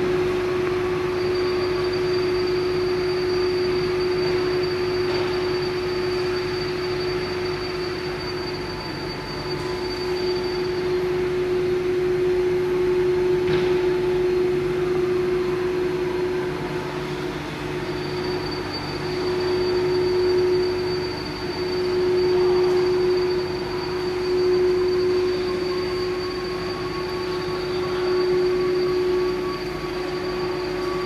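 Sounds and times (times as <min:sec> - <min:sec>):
high thin whine: 0:00.0 - 0:31.0
machine mechanical hum: 0:00.0 - 0:31.0.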